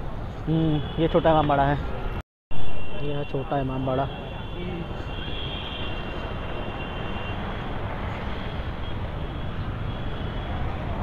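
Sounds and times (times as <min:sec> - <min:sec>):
street hubbub: 0:00.0 - 0:11.0
traffic: 0:00.0 - 0:11.0.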